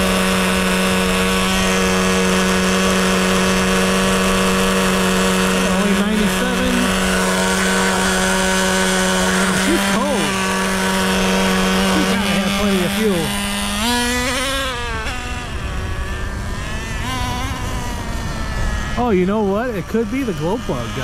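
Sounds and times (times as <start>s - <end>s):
small two-stroke engine idling: 0.0s - 21.0s.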